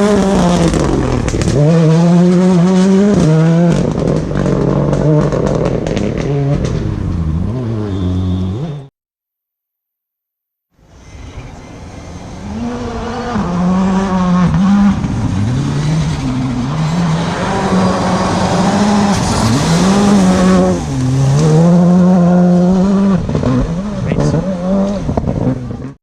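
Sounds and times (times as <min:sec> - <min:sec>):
rally car engine revving: 0:00.0 - 0:08.9, 0:10.9 - 0:26.0.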